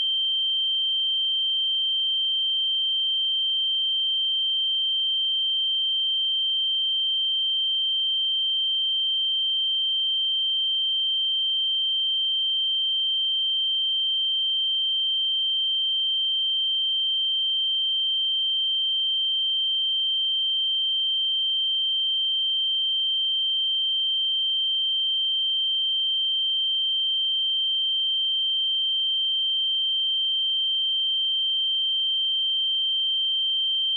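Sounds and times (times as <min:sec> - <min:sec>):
high-pitched sine-wave test tone: 0:00.0 - 0:33.9.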